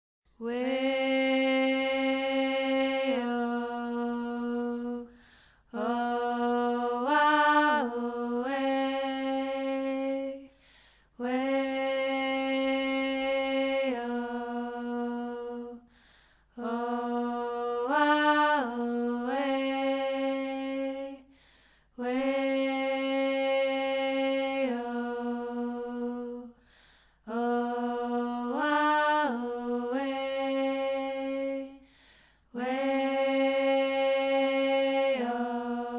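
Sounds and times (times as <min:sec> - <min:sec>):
slow chanting voice: 0:00.3 - 0:35.9.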